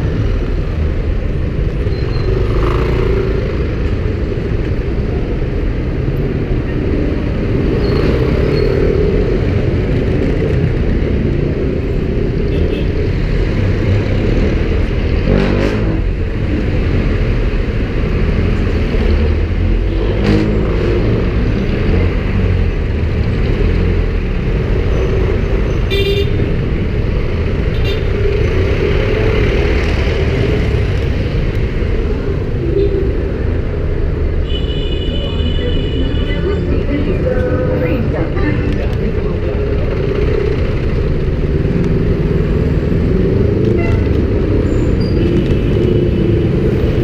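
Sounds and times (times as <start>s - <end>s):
traffic rumble and road noise: 0.0s - 47.0s.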